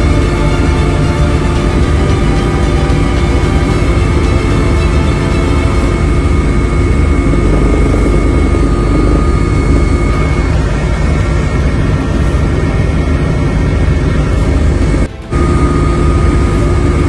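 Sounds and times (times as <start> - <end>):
aircraft engine noise: 0.0 - 17.0
constant whine: 0.0 - 17.0.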